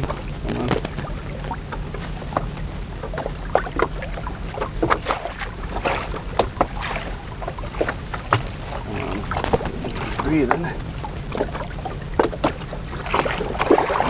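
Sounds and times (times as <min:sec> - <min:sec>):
fish splashing in water: 0:00.0 - 0:14.0
steady low rumble: 0:00.0 - 0:14.0
water splashing against boat: 0:00.0 - 0:14.0.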